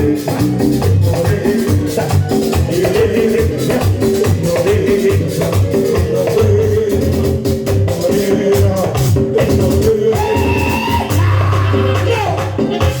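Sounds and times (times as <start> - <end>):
merengue band playing: 0.0 - 13.0
pulsing bass: 0.0 - 13.0
shaken percussion: 0.0 - 13.0.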